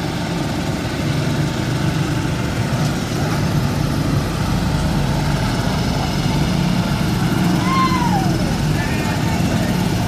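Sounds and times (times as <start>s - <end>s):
small boat engines droning: 0.0s - 10.0s.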